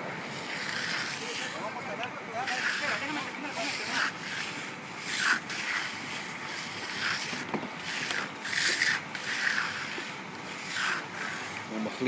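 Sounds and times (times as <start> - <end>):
trowel scraping wet concrete: 0.2 - 11.7.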